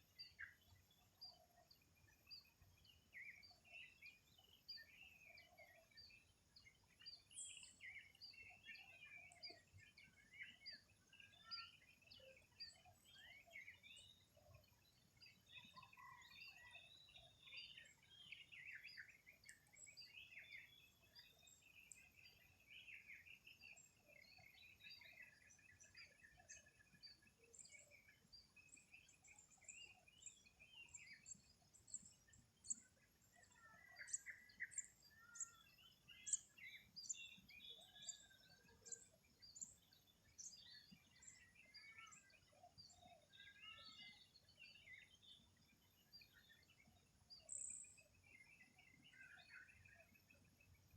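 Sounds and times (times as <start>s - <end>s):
birds chirping and warbling: 0.0s - 50.9s.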